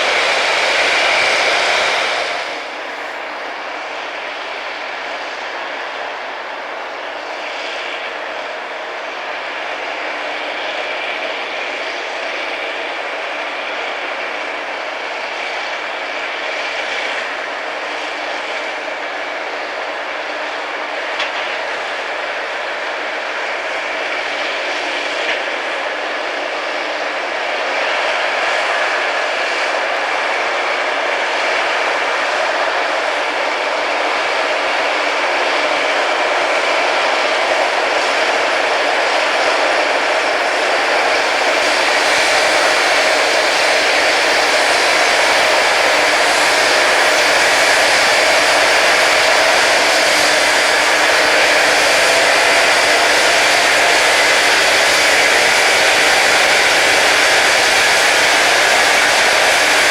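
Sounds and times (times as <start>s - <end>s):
rail grinding machine grinding: 0.0s - 59.9s.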